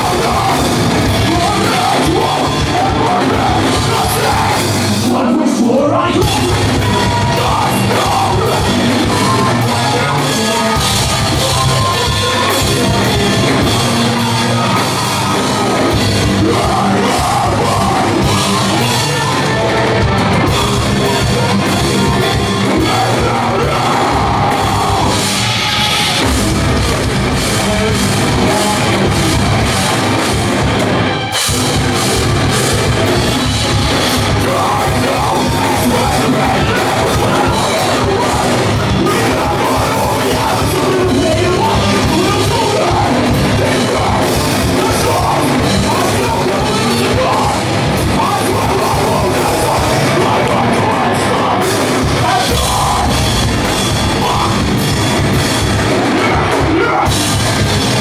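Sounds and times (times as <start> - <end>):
vocalist yelling: 0.0 - 26.3, 34.2 - 54.8, 56.0 - 57.3
heavy metal band playing: 0.0 - 58.0.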